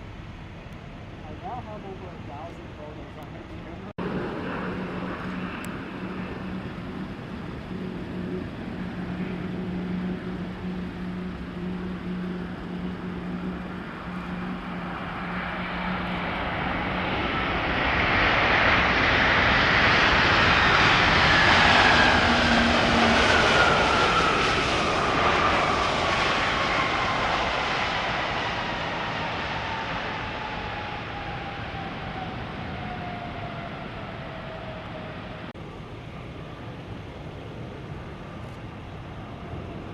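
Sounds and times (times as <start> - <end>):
low hum: 0.0 - 38.8
jet airliner passing: 0.0 - 39.9
jet engine whine: 0.0 - 39.9.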